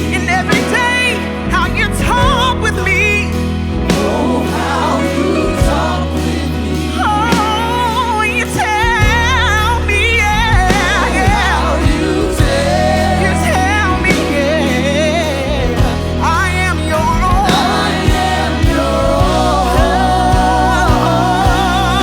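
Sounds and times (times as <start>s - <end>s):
band with bass and drums: 0.0s - 22.0s
people singing gospel melody: 0.0s - 22.0s.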